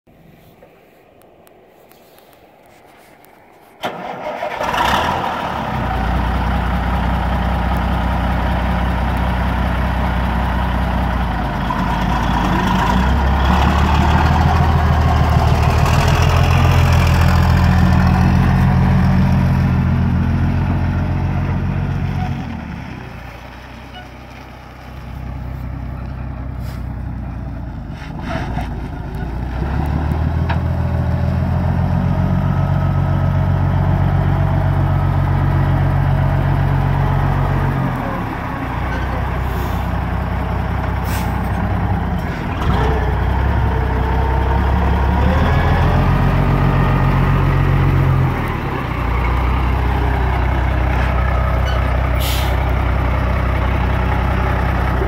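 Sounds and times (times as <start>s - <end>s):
diesel truck engine: 3.7s - 55.0s.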